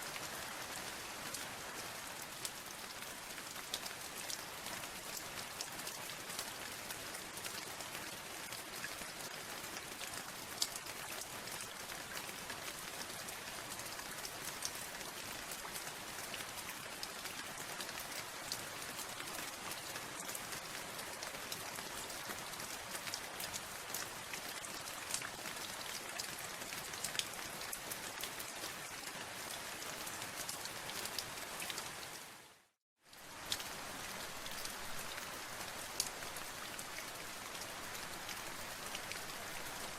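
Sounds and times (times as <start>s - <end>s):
raindrops ticking on a surface: 0.1s - 32.2s, 33.1s - 39.9s.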